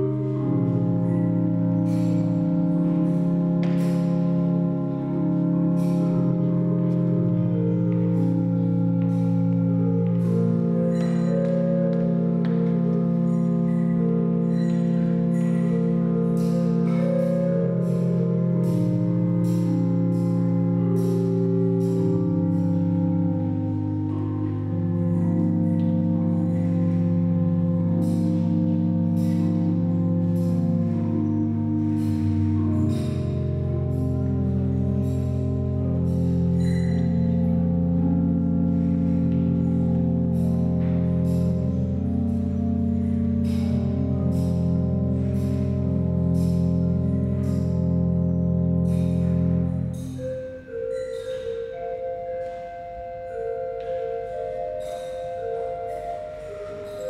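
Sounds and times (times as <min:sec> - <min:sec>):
organ playing sustained chords: 0:00.0 - 0:57.0.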